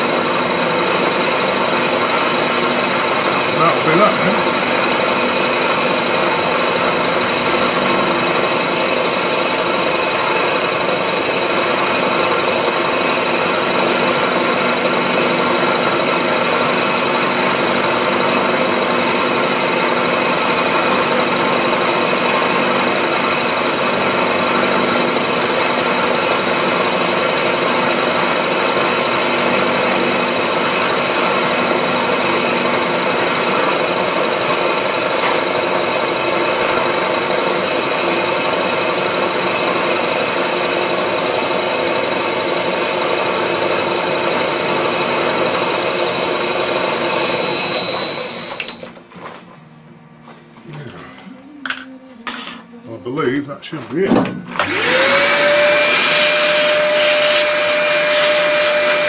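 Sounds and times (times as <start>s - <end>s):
machine tool whining steadily: 0.0s - 50.6s, 54.5s - 59.0s.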